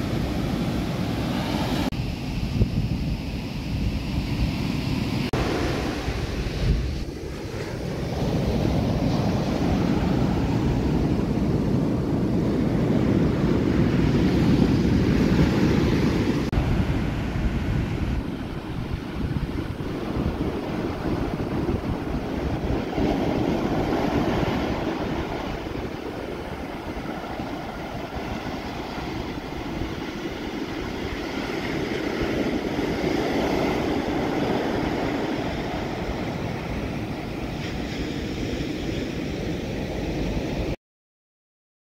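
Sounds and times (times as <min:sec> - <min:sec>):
ocean surf breaking on beach: 0:00.0 - 0:40.8
wind rumble on microphone: 0:00.0 - 0:40.8.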